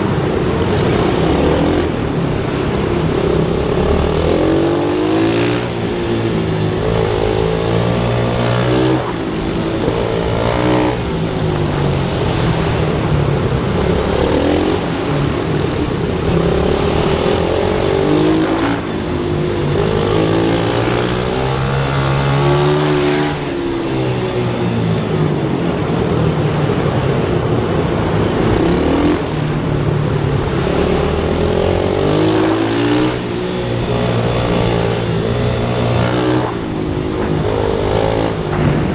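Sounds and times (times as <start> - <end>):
pit bike engines revving: 0.0 - 38.9.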